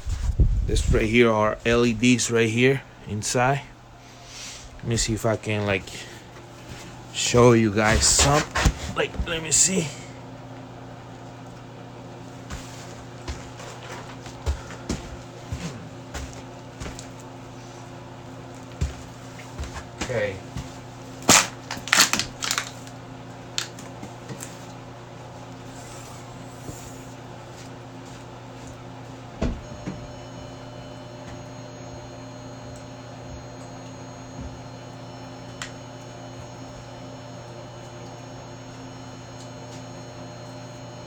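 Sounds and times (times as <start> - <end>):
electrical hum: 0.0 - 41.0.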